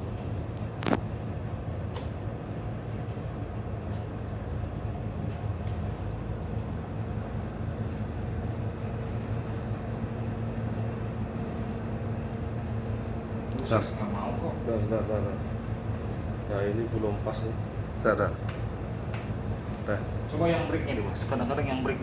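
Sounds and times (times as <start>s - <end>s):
ship diesel engines droning: 0.0s - 22.0s.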